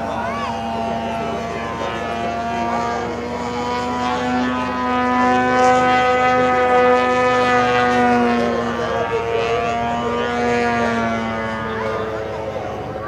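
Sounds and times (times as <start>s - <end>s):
model airplane motor droning: 0.0s - 13.0s.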